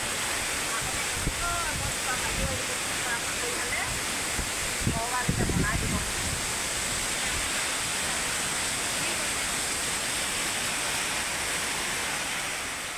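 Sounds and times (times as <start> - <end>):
rain falling: 0.0 - 12.9.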